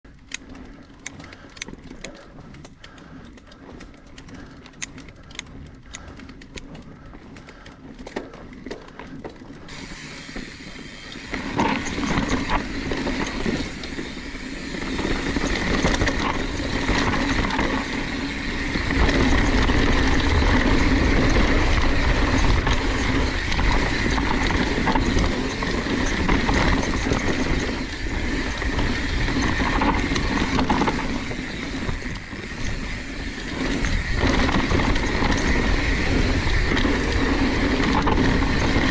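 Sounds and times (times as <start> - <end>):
bike frame rattling: 0.1 - 38.9
bike tyres rolling over dirt: 0.1 - 38.9.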